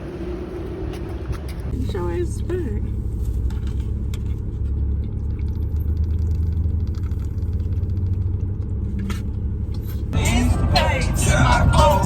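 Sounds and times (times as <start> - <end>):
truck engine running: 1.6 - 12.0.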